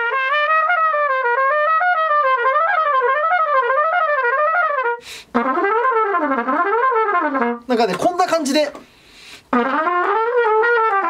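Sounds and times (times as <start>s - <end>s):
trumpet playing runs: 0.0s - 8.9s, 9.5s - 11.0s.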